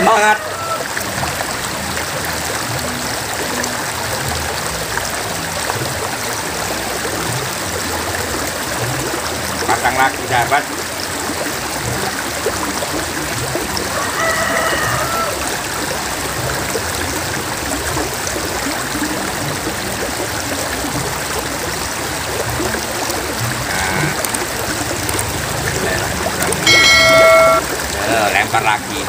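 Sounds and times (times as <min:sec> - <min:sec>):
river flowing over rocks: 0:00.0 - 0:29.0.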